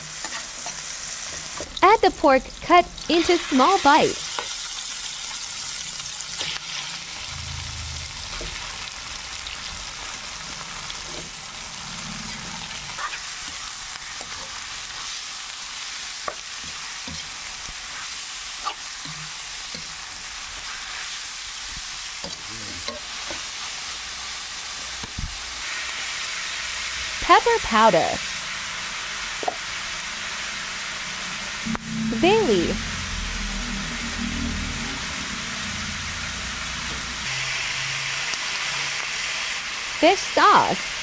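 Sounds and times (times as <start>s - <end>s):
meat sizzling in hot oil: 0.0s - 41.0s.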